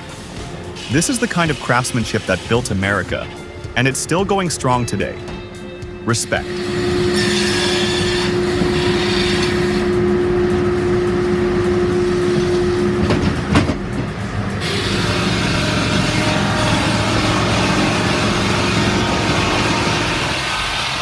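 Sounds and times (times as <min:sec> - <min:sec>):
heavy machinery running: 0:00.0 - 0:21.0
whining tone: 0:00.0 - 0:21.0.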